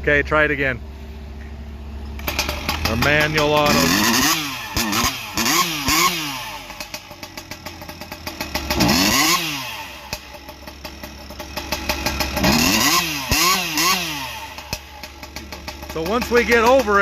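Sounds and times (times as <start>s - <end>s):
chainsaw idling and revving: 2.2s - 17.0s.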